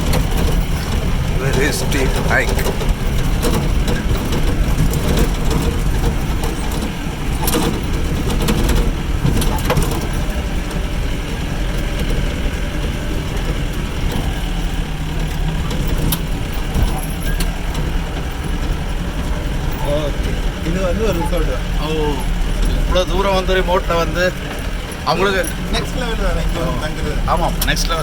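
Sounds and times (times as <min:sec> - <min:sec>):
off-road vehicle engine rumbling: 0:00.0 - 0:28.0
vehicle knocks and clatters: 0:00.0 - 0:28.0.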